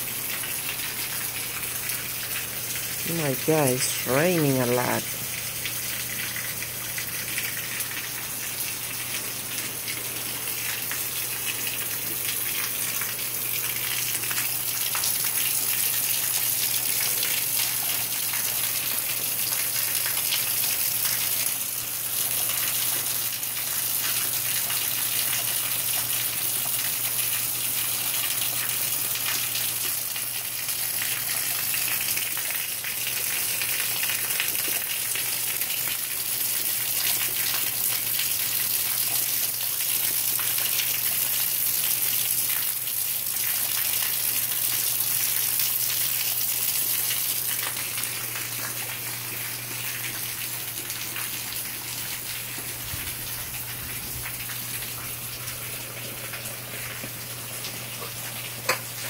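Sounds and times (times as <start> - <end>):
heavy rain falling: 0.0 - 34.6, 35.9 - 59.0
runoff splashing onto concrete: 0.0 - 59.0.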